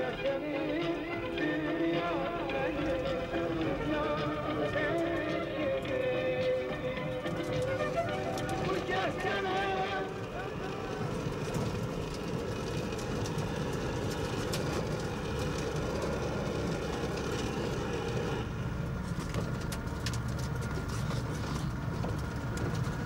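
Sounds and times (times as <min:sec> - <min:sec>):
car engine and road rumble: 0:00.0 - 0:23.0
ticks and rattles: 0:00.1 - 0:23.0.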